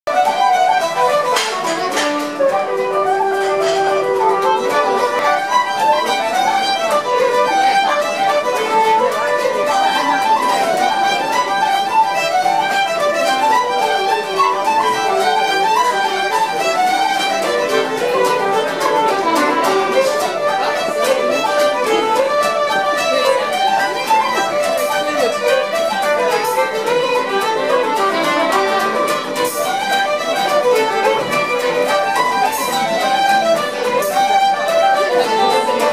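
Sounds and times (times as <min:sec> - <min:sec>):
fiddles playing: 0:00.1 - 0:35.9
flute playing: 0:00.1 - 0:35.9.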